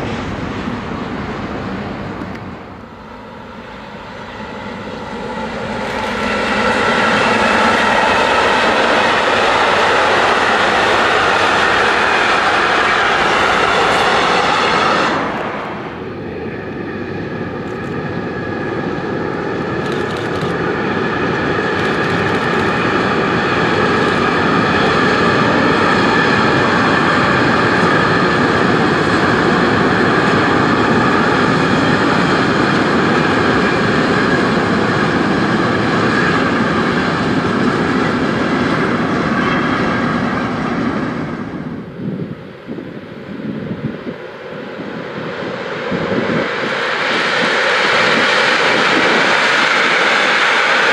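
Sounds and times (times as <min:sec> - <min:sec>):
train wheels rushing on rail: 0:00.0 - 0:50.9.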